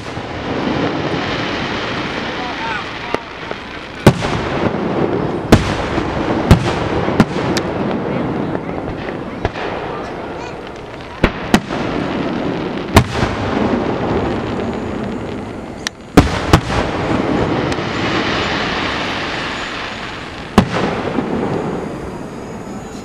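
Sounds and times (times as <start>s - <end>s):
fireworks bursting bangs: 0.0s - 23.0s
rolling rumble of echoes: 0.0s - 23.0s.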